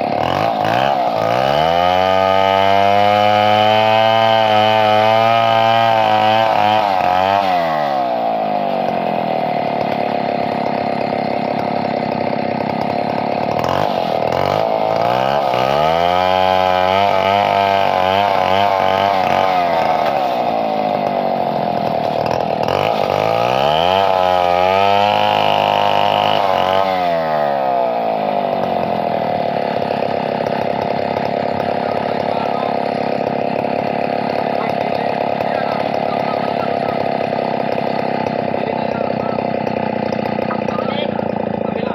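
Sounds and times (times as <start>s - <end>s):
chainsaw running at high revs: 0.0s - 41.9s.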